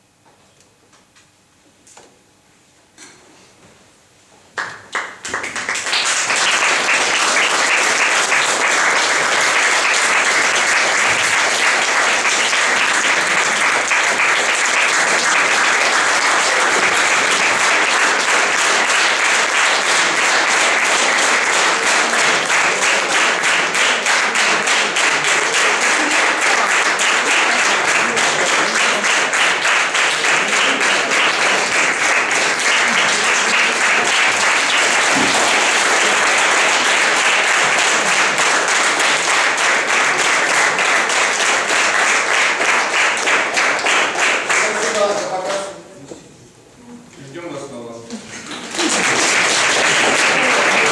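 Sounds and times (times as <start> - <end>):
audience applauding: 4.6 - 45.8, 48.2 - 50.9.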